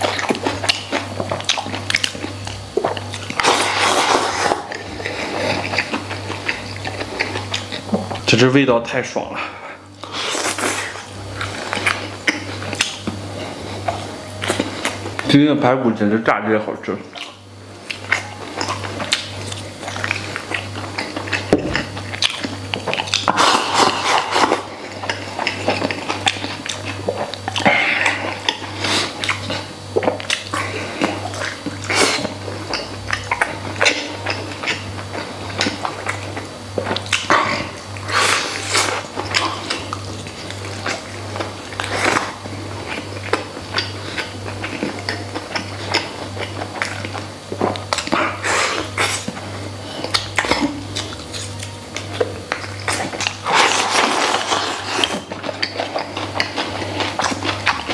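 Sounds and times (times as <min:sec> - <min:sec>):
person chewing: 0:00.0 - 0:08.3, 0:09.8 - 0:15.3, 0:17.1 - 0:57.9.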